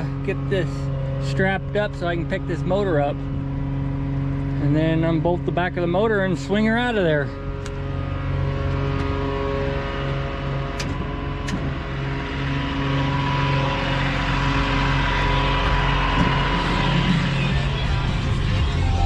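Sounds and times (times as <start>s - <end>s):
engine running: 0.0s - 19.0s
thin whine: 0.0s - 19.0s.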